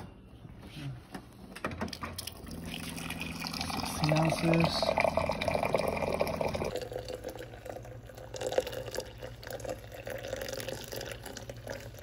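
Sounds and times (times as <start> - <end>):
water pouring onto coffee: 2.2 - 12.0.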